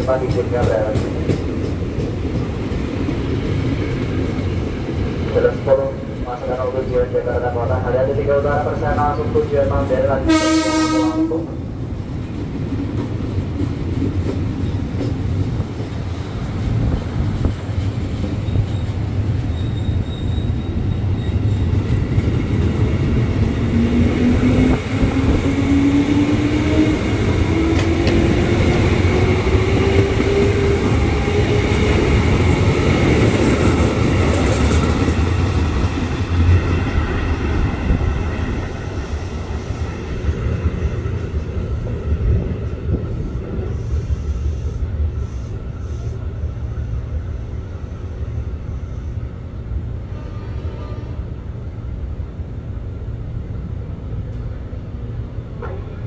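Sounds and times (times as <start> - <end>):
train wheels rumbling: 0.0 - 51.3.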